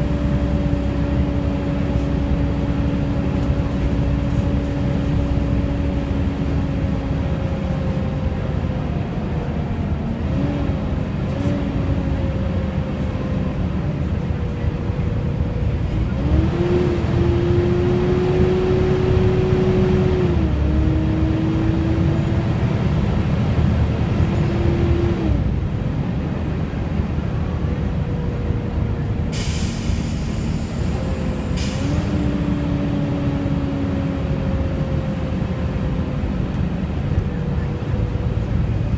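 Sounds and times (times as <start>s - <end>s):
bus engine and road rumble: 0.0s - 38.9s
bus engine cooling fan whining: 0.0s - 38.9s.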